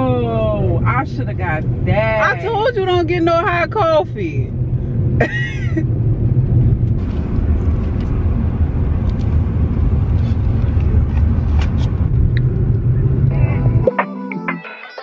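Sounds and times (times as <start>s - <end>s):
car cabin road and engine rumble: 0.0s - 13.9s.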